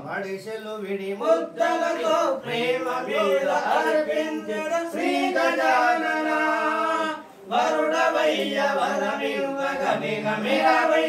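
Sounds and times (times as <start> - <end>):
voices singing devotional song: 0.1 - 11.0.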